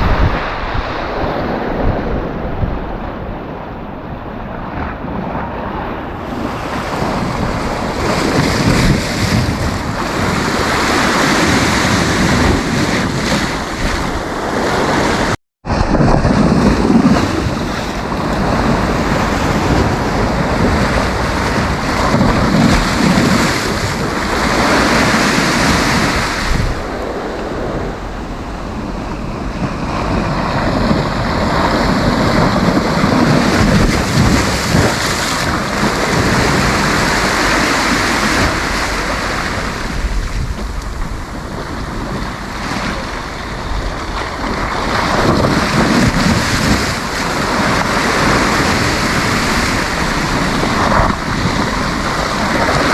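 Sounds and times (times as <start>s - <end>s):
sea waves washing up beach: 0.0s - 52.9s
wind buffeting microphone: 0.0s - 52.9s.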